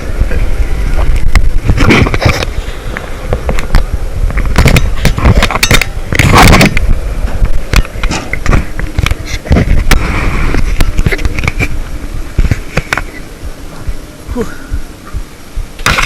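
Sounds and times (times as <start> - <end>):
crackles and knocks: 0.0 - 14.1, 14.8 - 16.0
wind buffeting the microphone: 0.0 - 16.0.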